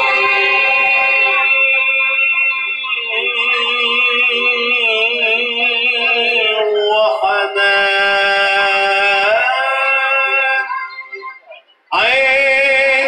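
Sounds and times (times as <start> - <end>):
keyboard: 0.0 - 13.0
man singing into microphone: 0.0 - 13.0.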